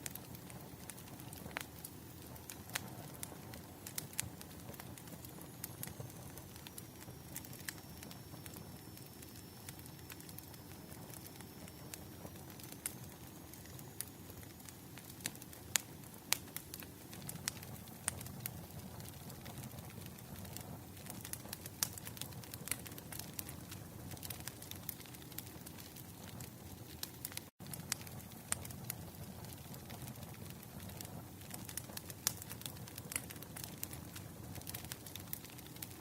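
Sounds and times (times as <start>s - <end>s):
firewood crackling and popping: 0.0s - 36.0s.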